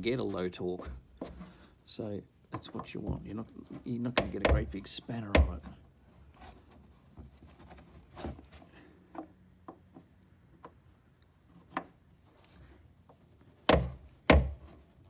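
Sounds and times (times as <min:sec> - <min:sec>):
soft handling noise: 0:00.0 - 0:13.7.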